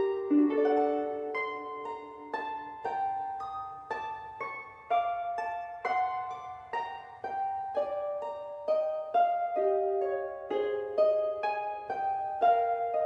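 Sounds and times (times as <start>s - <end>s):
slow instrumental melody: 0.0s - 13.0s.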